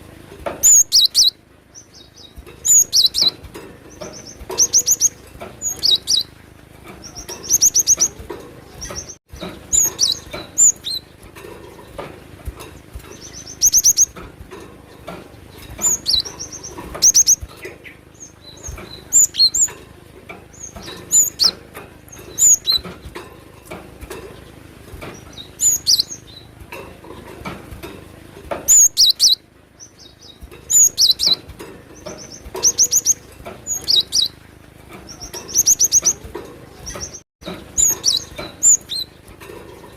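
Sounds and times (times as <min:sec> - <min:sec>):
bird singing rapid high trills: 0:00.6 - 0:12.0, 0:12.6 - 0:14.2, 0:15.3 - 0:19.8, 0:20.5 - 0:23.2, 0:24.1 - 0:26.6, 0:28.7 - 0:39.3.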